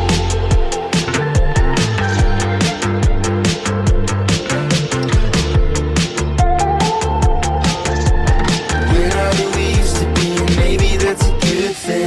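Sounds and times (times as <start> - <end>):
electronic pop song: 0.0 - 12.0.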